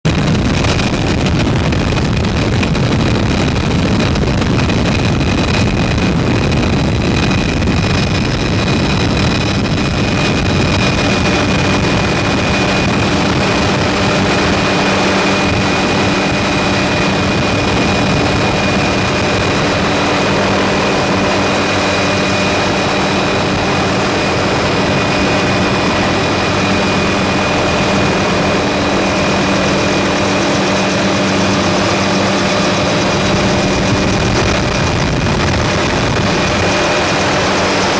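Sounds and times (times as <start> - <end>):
helicopter running: 0.0 - 37.9
low hum: 0.1 - 37.9.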